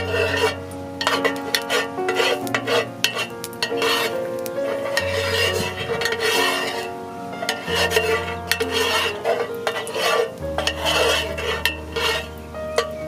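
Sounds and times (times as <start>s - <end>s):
metal spoon scraping a pot: 0.0s - 12.9s
background music with low bass: 0.0s - 13.0s
oil sizzling: 0.0s - 13.0s.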